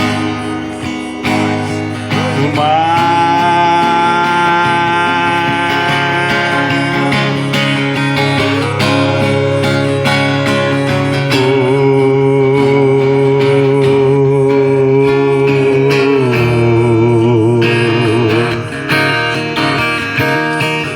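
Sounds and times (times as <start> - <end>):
strummed acoustic guitar: 0.0 - 20.9.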